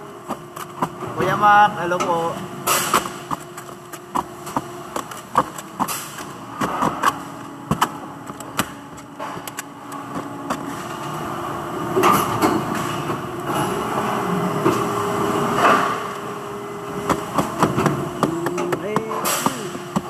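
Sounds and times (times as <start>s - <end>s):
factory machinery humming: 0.0s - 20.0s.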